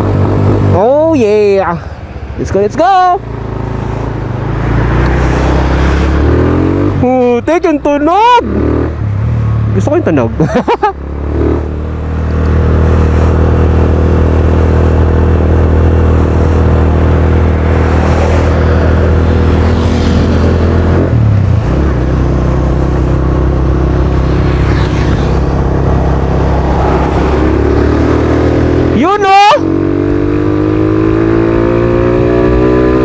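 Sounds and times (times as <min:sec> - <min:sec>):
motorcycle engine on the road: 0:00.0 - 0:33.0.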